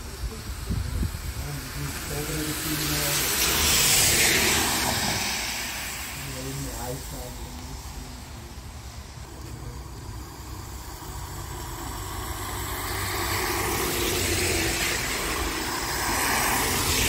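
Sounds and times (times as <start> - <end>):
car tyres hissing on wet road: 0.0 - 17.0.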